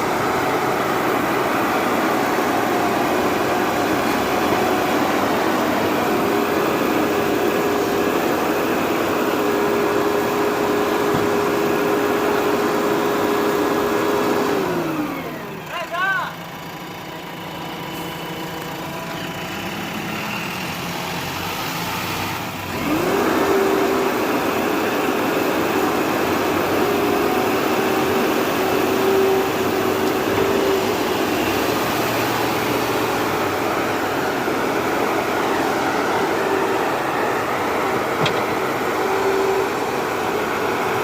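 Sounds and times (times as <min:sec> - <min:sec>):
heavy diesel engine revving: 0:00.0 - 0:15.6, 0:17.8 - 0:41.0.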